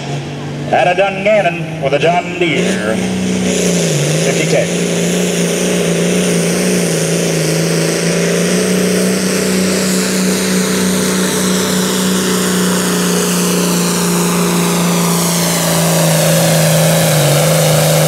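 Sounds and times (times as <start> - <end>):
high whine: 0.0 - 18.0
tractor diesel engine at full load: 0.0 - 18.0.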